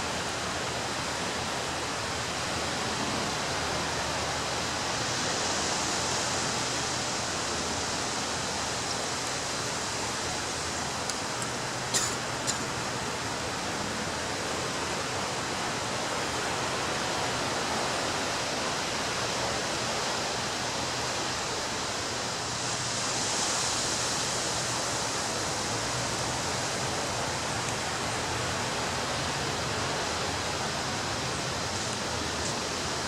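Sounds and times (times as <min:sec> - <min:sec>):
ocean surf on beach: 0:00.0 - 0:33.0.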